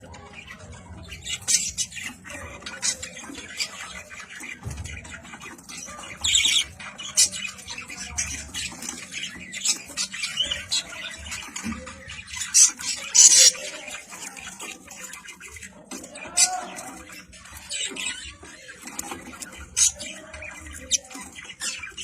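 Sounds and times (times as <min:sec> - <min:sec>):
birds squawking and chirping: 0:00.0 - 0:22.0.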